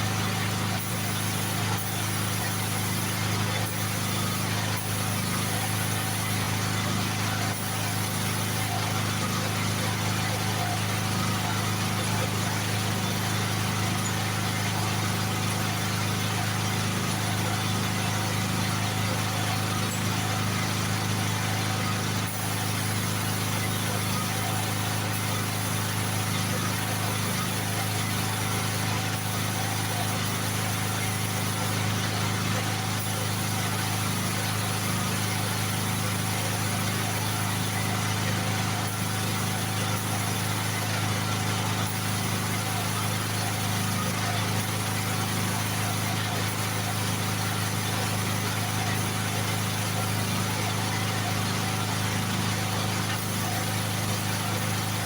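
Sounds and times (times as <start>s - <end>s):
generator engine running: 0.0s - 55.0s.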